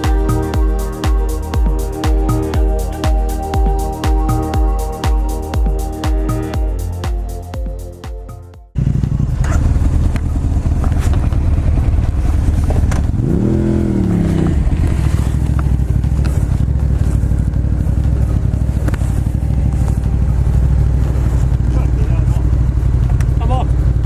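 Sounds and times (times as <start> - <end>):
motorcycle engine rumble: 0.0 - 24.0.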